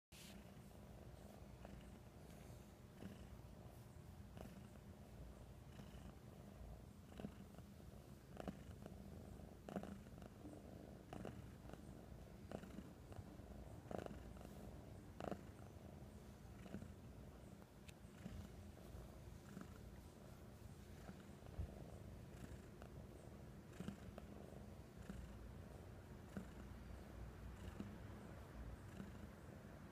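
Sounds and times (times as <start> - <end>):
cat purring: 0.2 - 29.9.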